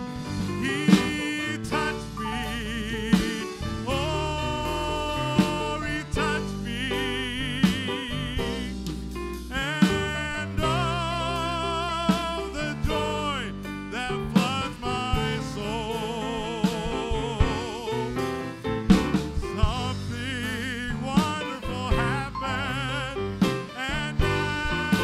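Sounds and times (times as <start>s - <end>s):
instrumental accompaniment: 0.0s - 25.0s
steady drum beat: 0.0s - 25.0s
person singing with vibrato: 0.2s - 18.6s, 19.4s - 25.0s.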